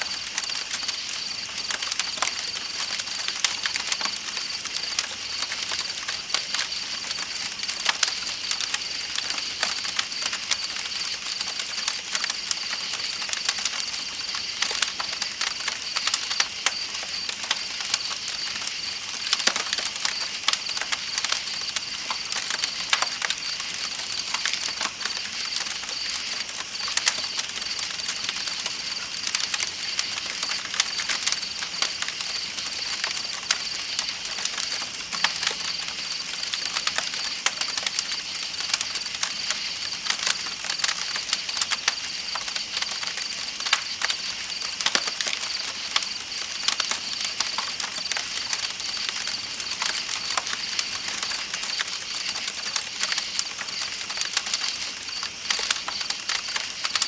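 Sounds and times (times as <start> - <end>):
campfire crackling and popping: 0.0 - 57.0
night insects chorus: 0.0 - 57.0.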